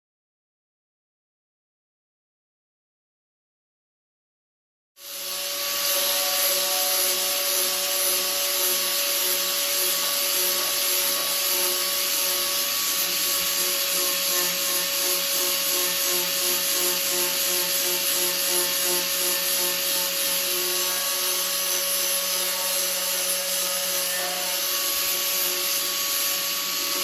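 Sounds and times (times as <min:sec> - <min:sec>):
electric sander stripping paint: 0:05.0 - 0:27.0.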